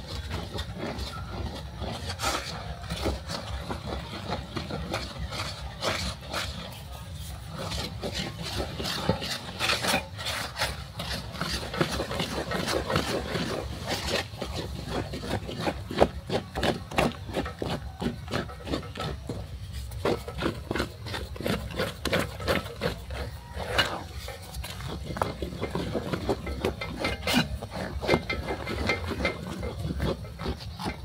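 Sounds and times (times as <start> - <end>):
wooden stick stirring thick dough: 0.0 - 31.0.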